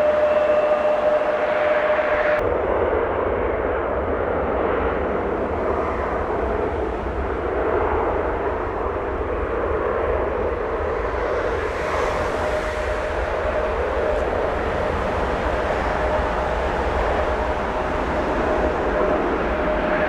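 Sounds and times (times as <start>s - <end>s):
jet airliner engines: 0.0s - 20.0s.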